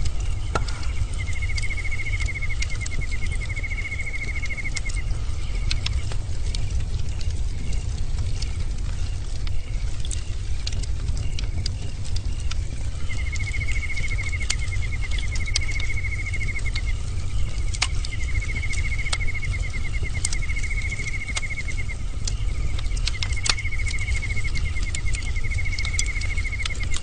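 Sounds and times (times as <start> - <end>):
bonfire crackling: 0.0 - 27.0.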